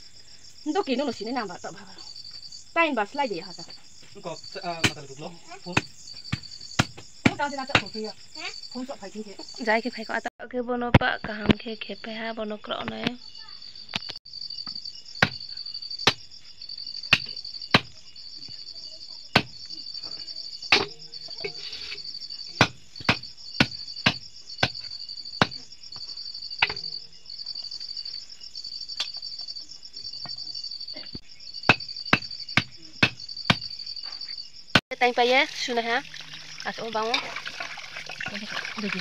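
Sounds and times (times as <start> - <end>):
insect chirring: 0.0 - 39.0.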